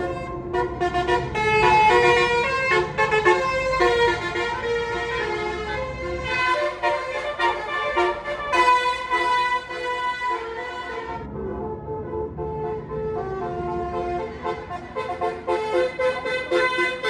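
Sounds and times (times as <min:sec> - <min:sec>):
bus engine rumble: 0:00.0 - 0:17.0
bus horn playing melody: 0:00.0 - 0:17.0.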